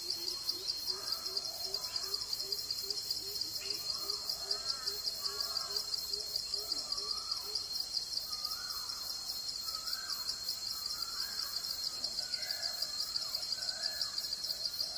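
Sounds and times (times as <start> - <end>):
insects trilling: 0.0 - 14.9.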